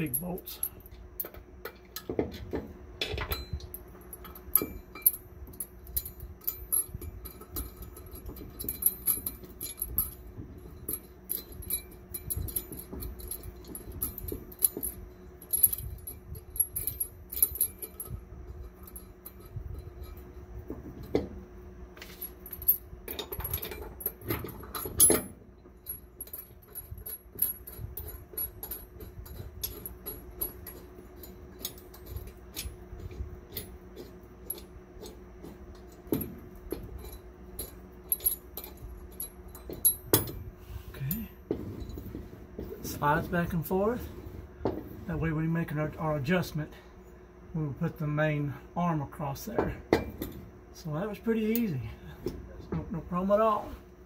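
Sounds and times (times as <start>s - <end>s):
steel bolts and nuts clinking: 0.0s - 53.8s
faint steady hum: 0.0s - 54.0s.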